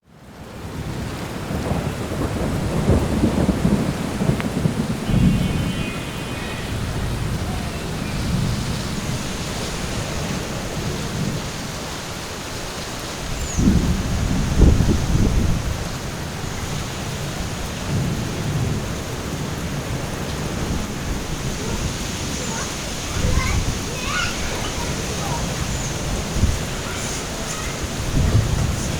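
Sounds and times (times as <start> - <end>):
low thunder rumbles: 0.4 - 11.9, 13.2 - 28.9
wind buffeting microphone: 0.6 - 28.9.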